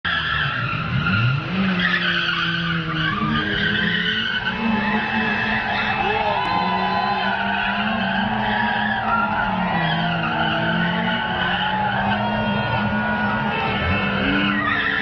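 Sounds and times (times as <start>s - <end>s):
car engine revving: 0.1s - 15.0s
tyres squealing: 0.1s - 15.0s.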